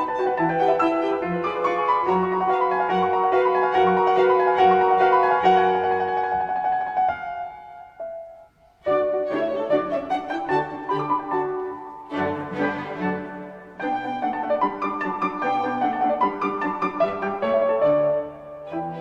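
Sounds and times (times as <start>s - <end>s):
classical piano music: 0.0s - 19.0s.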